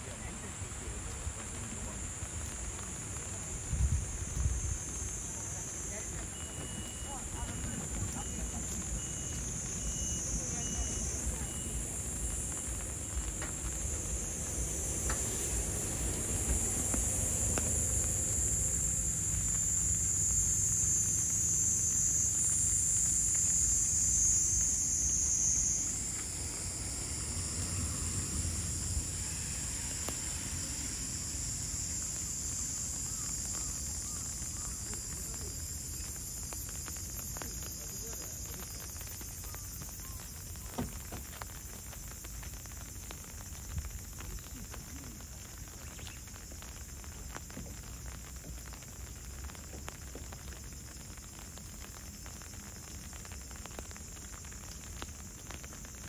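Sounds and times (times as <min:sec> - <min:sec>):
faint hiss: 0:00.0 - 0:56.0
insects chorus: 0:00.0 - 0:56.0.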